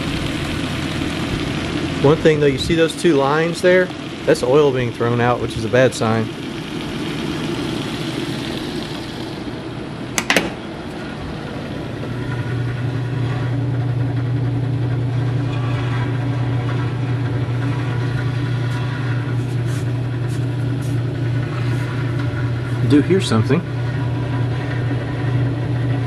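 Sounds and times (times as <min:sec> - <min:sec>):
refrigerator motor humming: 0:00.0 - 0:26.0.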